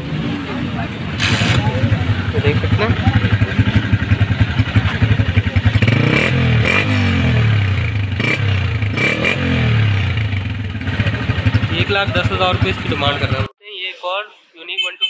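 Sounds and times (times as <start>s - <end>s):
motorcycle engine idling and revving: 0.0s - 13.5s.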